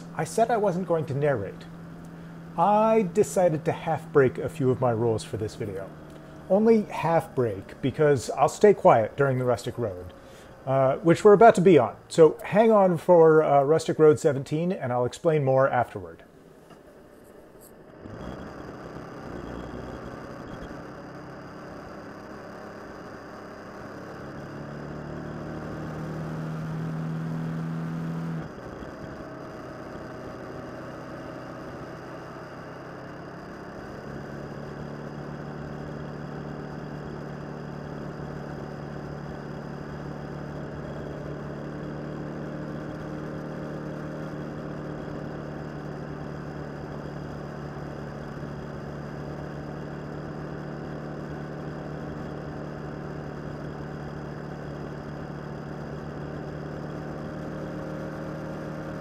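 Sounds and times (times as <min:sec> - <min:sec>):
motorcycle engine: 0:00.0 - 0:14.3, 0:15.7 - 0:59.0.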